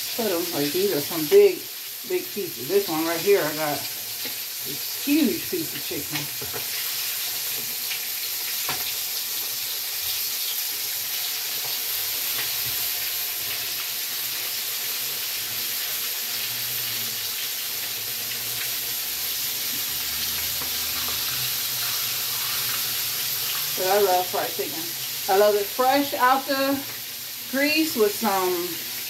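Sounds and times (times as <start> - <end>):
chicken frying in oil: 0.0 - 29.0.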